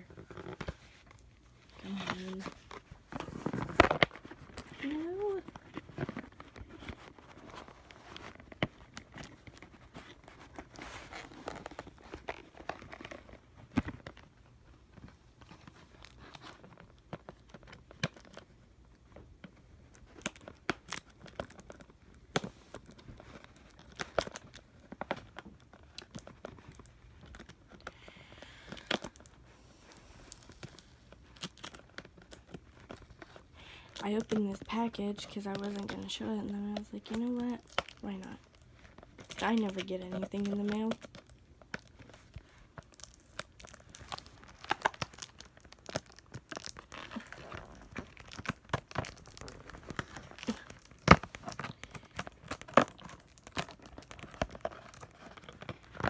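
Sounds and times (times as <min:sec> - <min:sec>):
packaging tearing and crinkling: 0:00.0 - 0:14.3, 0:15.4 - 0:18.5, 0:19.9 - 0:28.0, 0:28.6 - 0:56.0.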